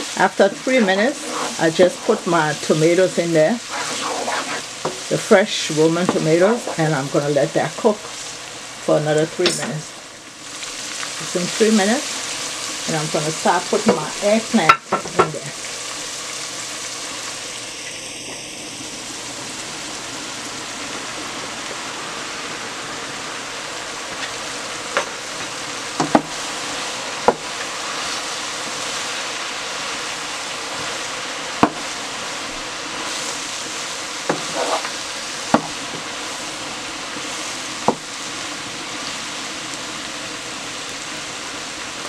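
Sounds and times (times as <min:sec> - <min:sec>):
vegetables sizzling in oil: 0:00.0 - 0:42.0.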